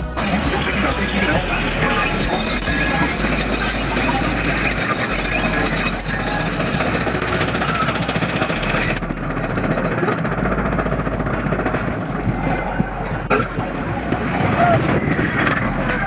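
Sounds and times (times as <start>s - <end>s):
roller coaster rattling: 0.0s - 16.0s.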